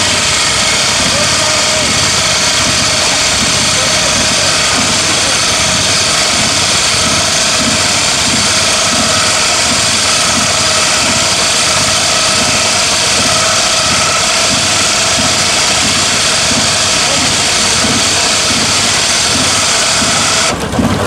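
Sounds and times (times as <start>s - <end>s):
vehicle engine running loudly: 0.0s - 21.0s.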